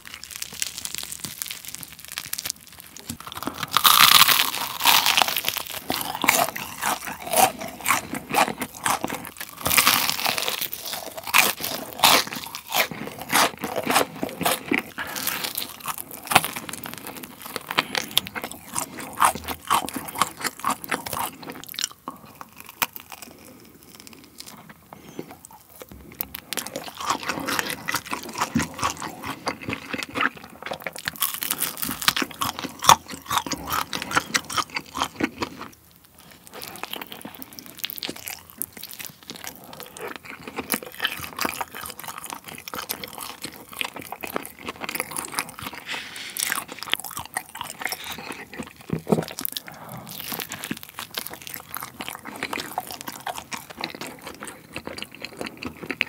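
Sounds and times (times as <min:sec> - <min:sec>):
crunching fried chicken: 0:00.0 - 0:56.0
soft chewing: 0:00.0 - 0:56.0.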